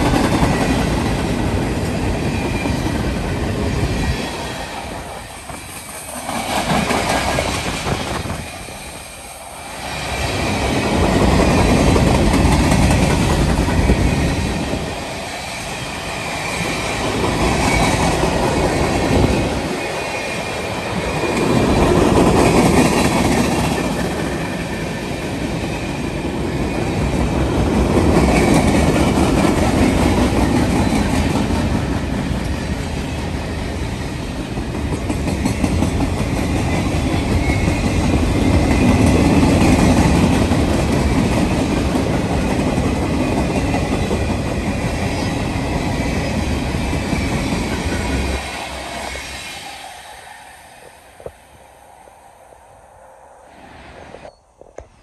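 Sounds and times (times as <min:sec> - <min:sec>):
train rolling past: 0:00.0 - 0:55.0.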